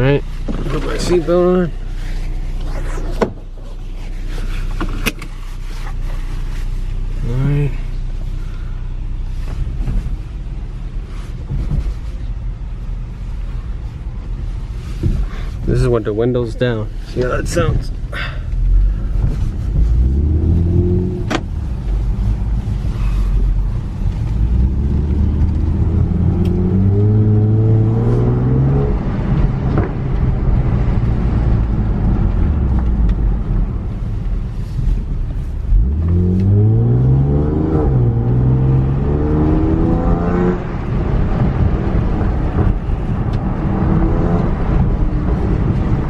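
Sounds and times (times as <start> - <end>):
car engine revving: 0.0 - 11.6, 15.7 - 46.0
road and wind noise: 0.0 - 46.0.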